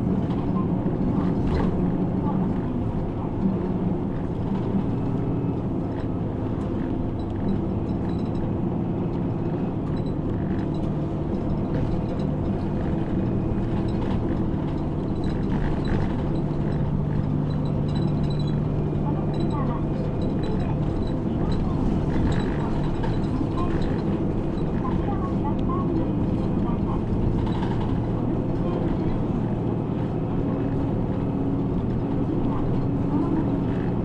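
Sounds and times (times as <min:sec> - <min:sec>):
bus engine drone: 0:00.0 - 0:34.0
road noise: 0:00.0 - 0:34.0.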